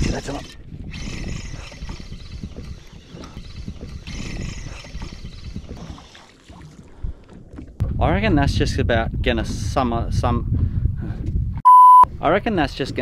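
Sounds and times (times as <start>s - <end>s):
wind buffeting microphone: 0.0s - 6.0s, 6.8s - 13.0s.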